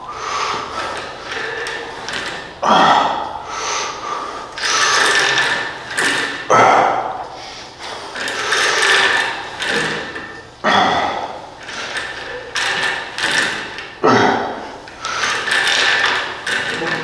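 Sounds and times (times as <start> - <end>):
cable whirring over pulleys: 0.1 - 17.0
weight stack clack: 0.2 - 7.2, 7.8 - 17.0.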